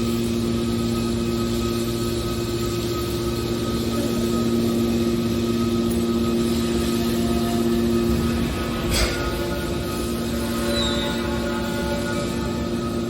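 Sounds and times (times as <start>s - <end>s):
baler machine humming: 0.0s - 13.0s.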